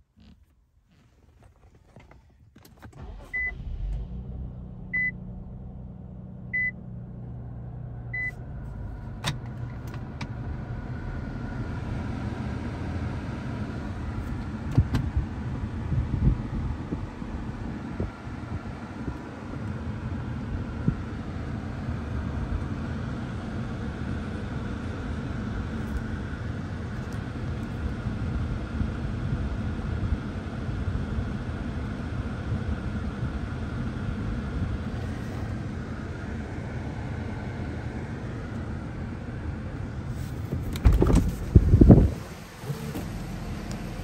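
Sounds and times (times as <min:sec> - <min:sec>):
car engine idling: 0:03.0 - 0:31.8, 0:32.7 - 0:44.0.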